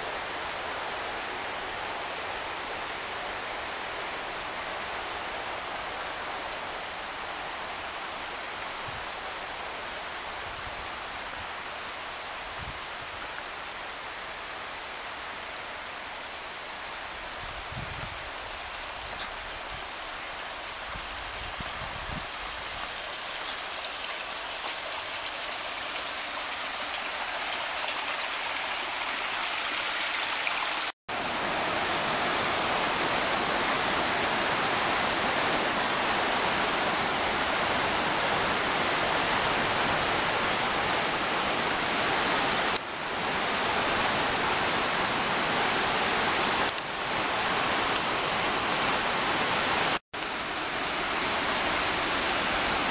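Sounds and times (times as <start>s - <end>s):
water rushing over boulders: 2.7s - 52.9s.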